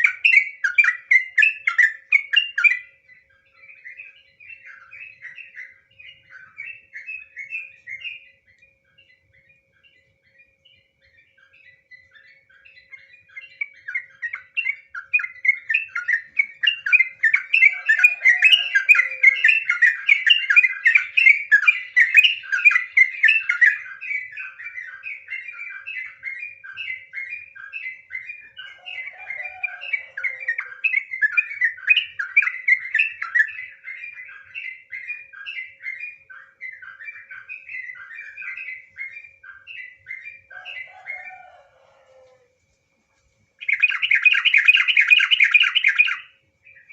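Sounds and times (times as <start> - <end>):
bird singing chattering notes: 0.0 - 41.3, 43.6 - 46.9.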